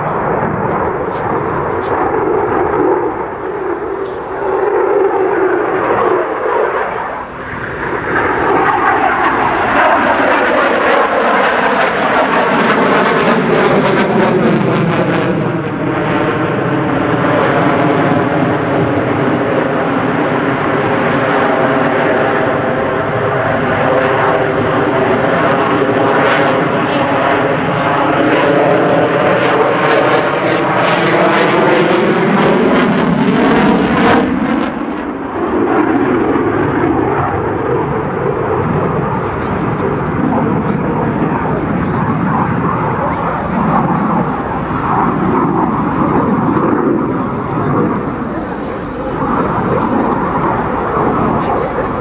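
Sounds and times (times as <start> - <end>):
fighter jet engines roaring: 0.0 - 52.0.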